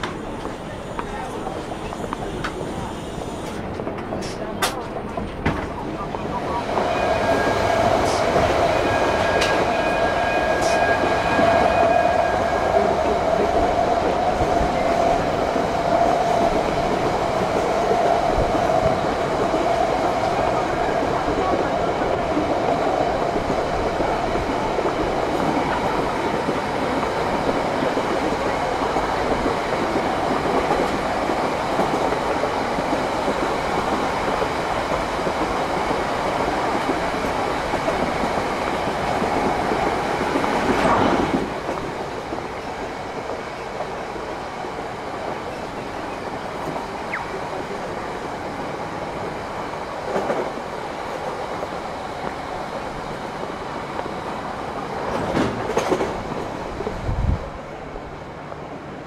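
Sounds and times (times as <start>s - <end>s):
train running on tracks: 0.0s - 59.0s.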